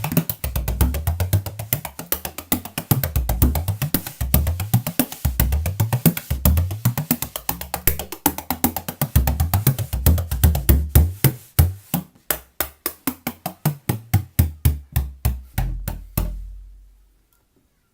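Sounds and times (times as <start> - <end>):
frame drum beaten in rhythm: 0.0 - 16.8.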